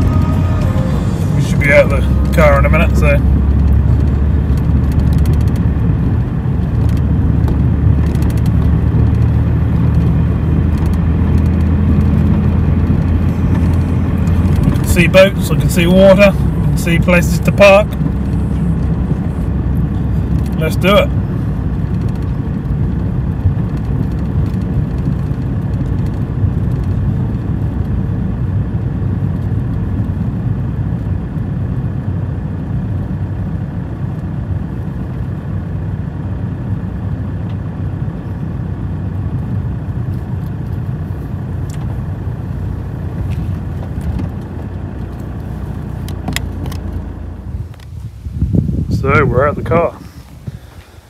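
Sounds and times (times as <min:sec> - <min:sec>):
car engine and tyre rumble: 0:00.0 - 0:51.0.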